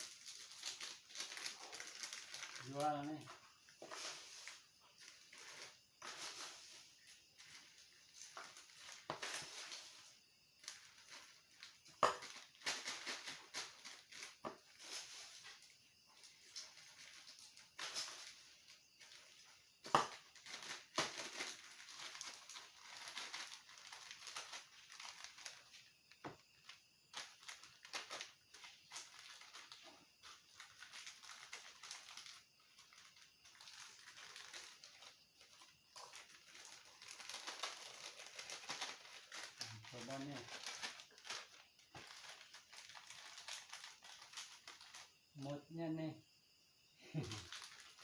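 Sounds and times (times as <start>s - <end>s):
dry crinkling and rustling: 0.0s - 45.2s, 47.2s - 48.0s.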